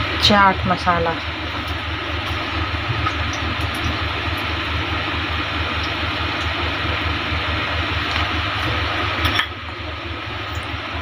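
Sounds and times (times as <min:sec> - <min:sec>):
motor whirring with low throb: 0:00.0 - 0:11.0.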